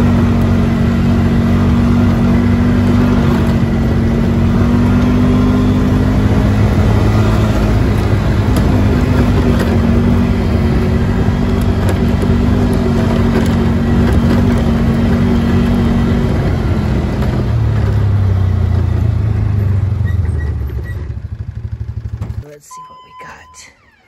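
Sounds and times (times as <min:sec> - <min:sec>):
vehicle engine on gravel track: 0:00.0 - 0:22.6.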